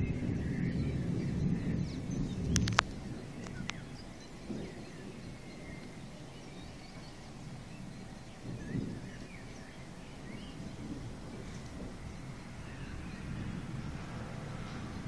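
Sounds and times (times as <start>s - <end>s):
faint birds chirping: 0.0s - 15.0s
noisy outdoor background: 0.0s - 15.0s.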